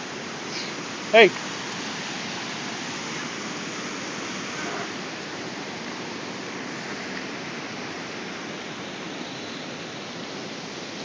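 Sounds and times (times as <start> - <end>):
storm runoff rushing: 0.0 - 11.0.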